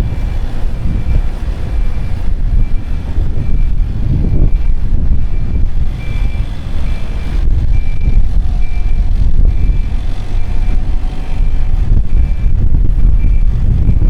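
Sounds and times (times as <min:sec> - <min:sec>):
street noise rumble: 0:00.0 - 0:14.0.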